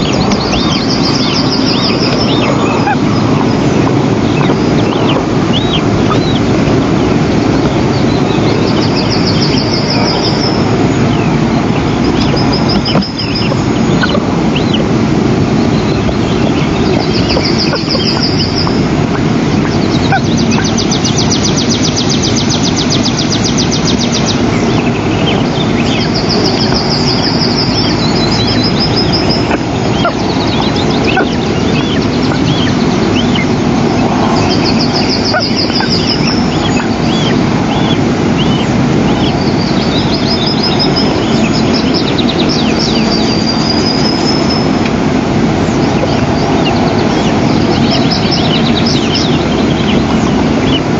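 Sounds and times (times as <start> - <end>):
thin bird chirps: 0.0 - 14.9, 15.6 - 44.8, 45.6 - 50.8
trilling bird calls: 0.0 - 50.9
wind on microphone: 0.0 - 50.9.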